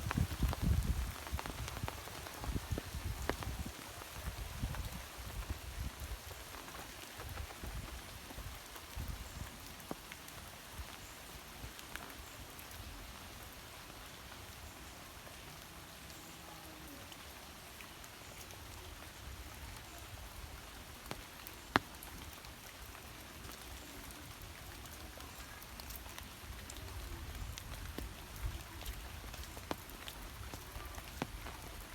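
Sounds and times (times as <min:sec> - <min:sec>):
raindrops ticking: 0:00.0 - 0:13.2, 0:17.1 - 0:31.9
steady rain falling: 0:00.0 - 0:31.9.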